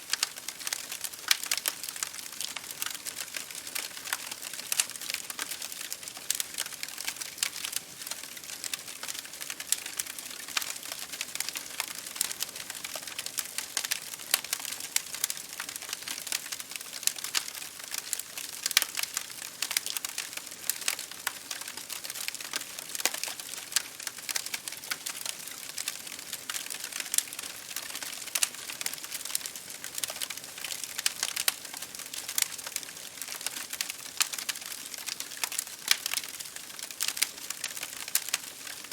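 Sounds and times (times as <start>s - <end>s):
rain pattering on a window: 0.0s - 38.9s
wood fire crackling: 0.0s - 38.9s.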